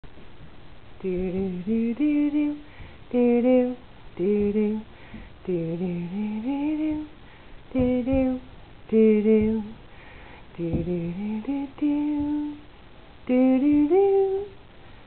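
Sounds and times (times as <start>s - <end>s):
person humming: 1.0s - 9.8s, 10.5s - 12.6s, 13.3s - 14.6s.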